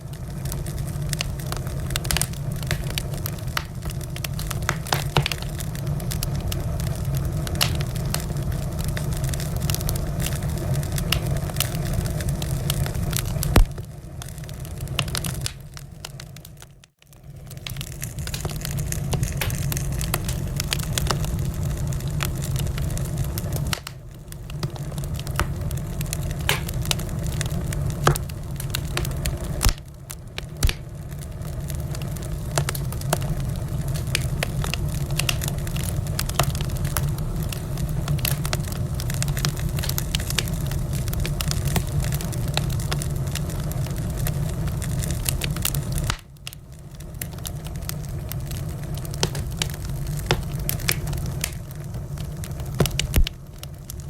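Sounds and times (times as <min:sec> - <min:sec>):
burning logs crackling and popping: 0:00.0 - 0:54.0
fire rumbling: 0:00.0 - 0:54.0.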